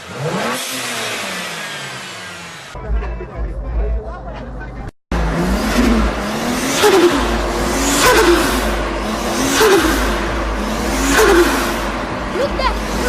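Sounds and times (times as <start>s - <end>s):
turbocharged car engine accelerating: 0.0s - 2.9s, 5.1s - 13.0s.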